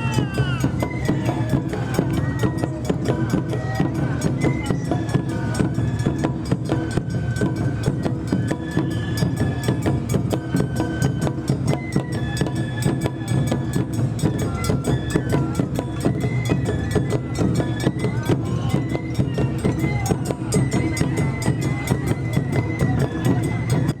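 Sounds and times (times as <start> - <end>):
fast drum and percussion strikes: 0.0 - 24.0.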